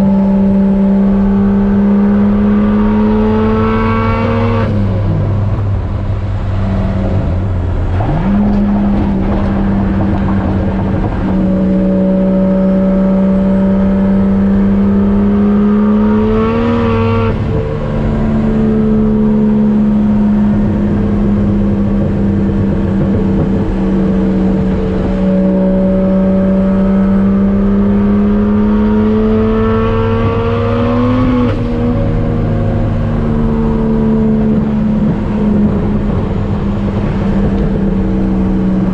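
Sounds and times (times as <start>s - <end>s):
turbocharged car engine: 0.0s - 38.9s.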